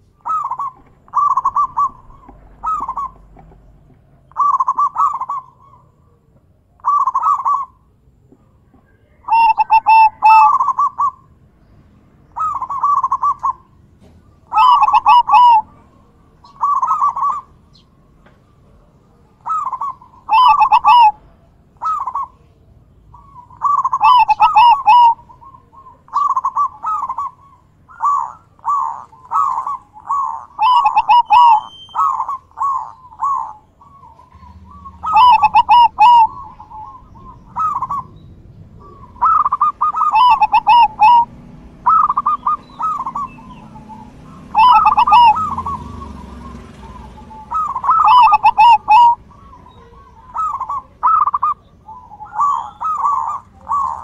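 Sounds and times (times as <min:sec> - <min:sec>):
dove cooing: 0:00.0 - 0:11.4, 0:12.3 - 0:54.0.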